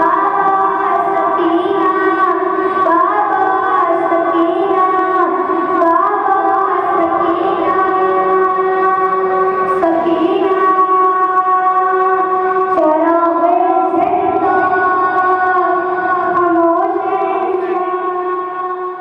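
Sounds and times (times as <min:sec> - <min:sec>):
boy singing a lament: 0:00.0 - 0:19.0.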